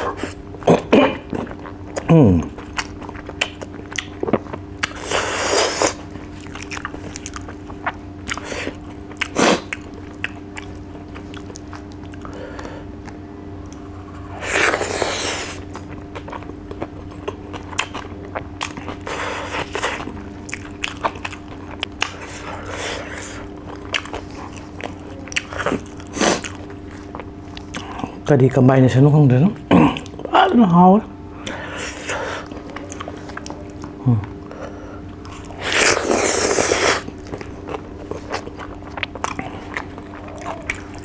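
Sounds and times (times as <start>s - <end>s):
man chewing food: 0.0s - 28.4s, 29.6s - 41.0s.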